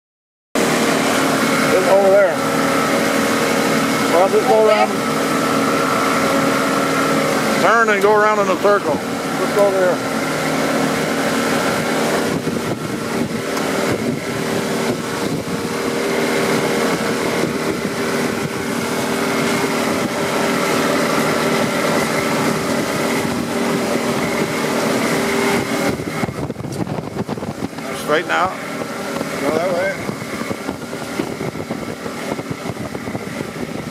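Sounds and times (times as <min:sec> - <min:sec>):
motorboat engine running: 0:00.6 - 0:33.9
wind on microphone: 0:00.6 - 0:33.9.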